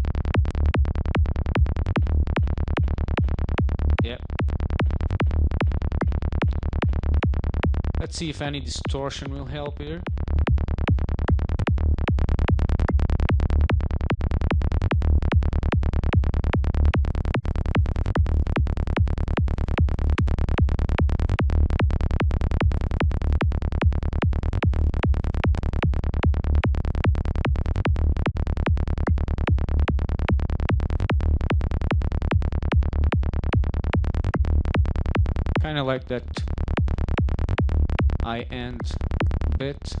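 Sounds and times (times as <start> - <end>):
electronic kick and bass loop: 0.0 - 40.0.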